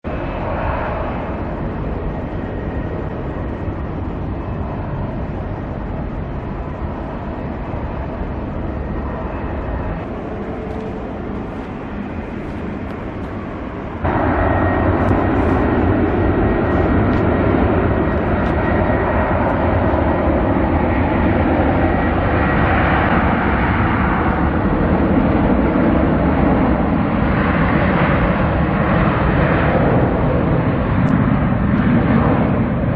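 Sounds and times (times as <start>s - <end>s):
jet engines taking off: 0.0s - 32.9s.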